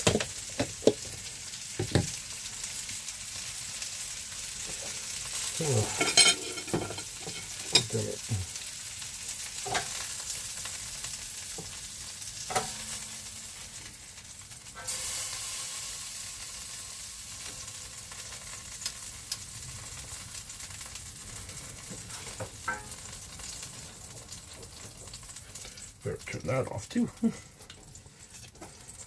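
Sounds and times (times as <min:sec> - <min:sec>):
potatoes sizzling in a pan: 0:00.0 - 0:29.0.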